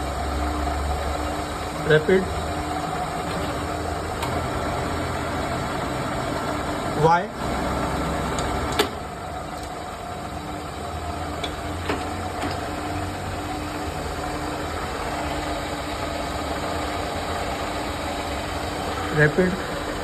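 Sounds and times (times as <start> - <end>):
milling machine motor hum: 0.0 - 20.0.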